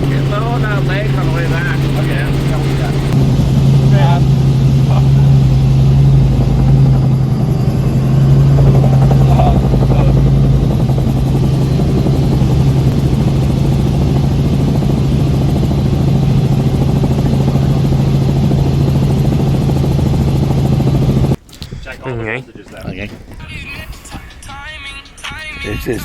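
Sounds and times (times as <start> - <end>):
drone hovering: 0.0 - 21.4.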